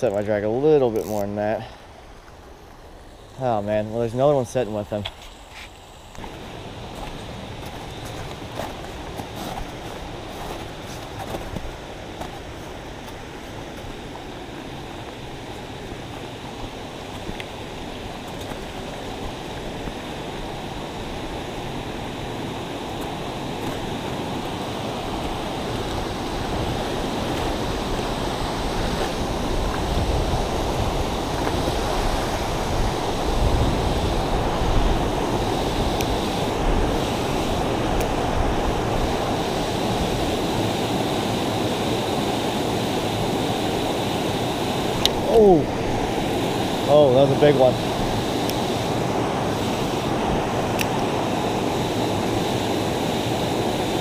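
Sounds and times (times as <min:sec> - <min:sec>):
rushing water of rapids: 0:06.2 - 0:54.0.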